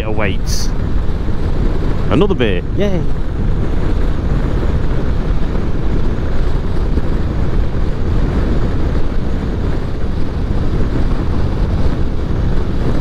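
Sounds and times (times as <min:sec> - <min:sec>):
road noise: 0:00.0 - 0:13.0
wind rushing over microphone: 0:00.0 - 0:13.0.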